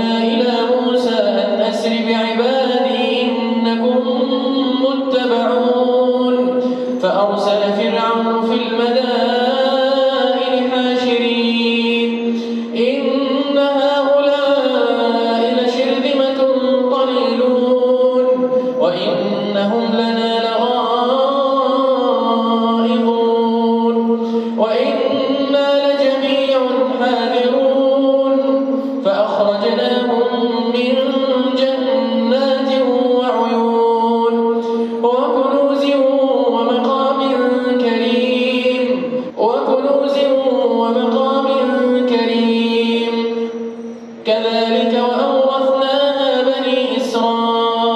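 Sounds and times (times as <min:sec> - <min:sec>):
man chanting recitation: 0:00.0 - 0:47.9.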